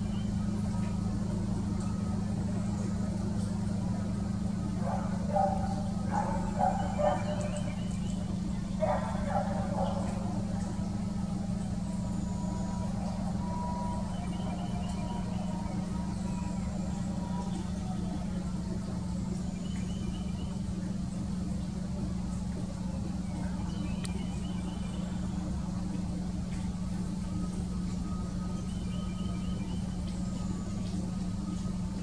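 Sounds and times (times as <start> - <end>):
low mechanical hum: 0.0 - 32.0
faint bird calls: 4.0 - 31.8.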